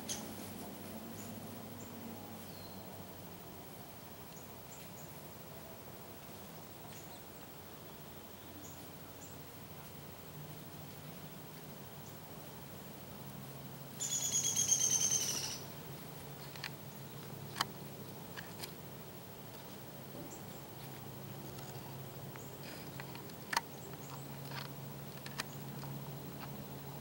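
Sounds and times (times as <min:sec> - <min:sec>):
faint ticks and rustles: 0:00.0 - 0:27.0.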